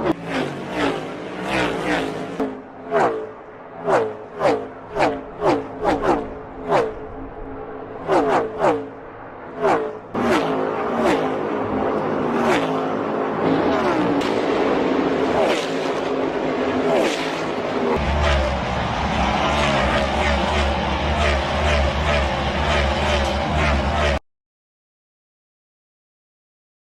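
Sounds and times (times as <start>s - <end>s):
race cars passing at speed: 0.0s - 24.2s.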